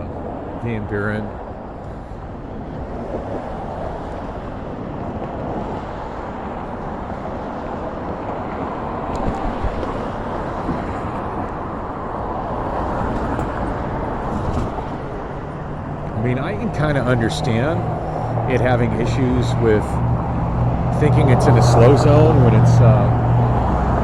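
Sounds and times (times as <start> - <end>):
road and traffic noise: 0.0 - 24.0.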